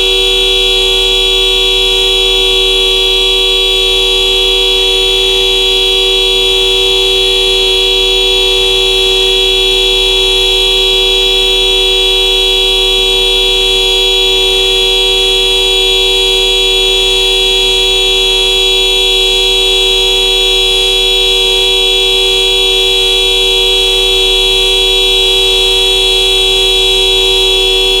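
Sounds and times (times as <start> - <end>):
car horn two-note tone: 0.0 - 28.0.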